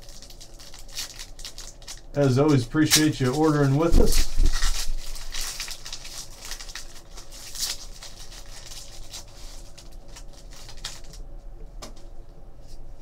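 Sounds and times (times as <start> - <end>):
foil pack crinkling and tearing: 0.0 - 11.2.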